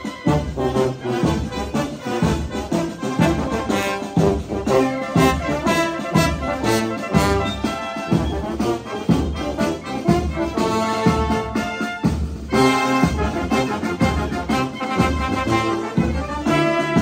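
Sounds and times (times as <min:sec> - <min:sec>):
brass band playing a march: 0:00.0 - 0:17.0
drum beat: 0:00.0 - 0:17.0.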